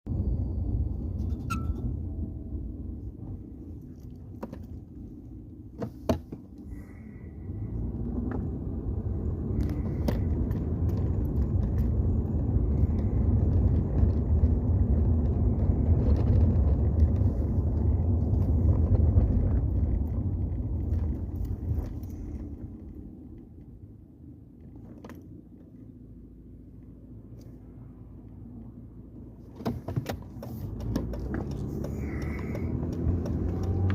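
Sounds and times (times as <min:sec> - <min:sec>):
low rumbling under braking: 0:00.0 - 0:33.9.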